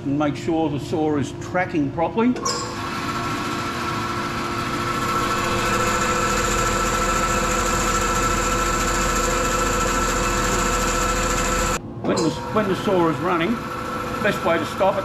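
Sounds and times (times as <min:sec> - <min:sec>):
bandsaw motor hum and whine: 0:02.5 - 0:15.0.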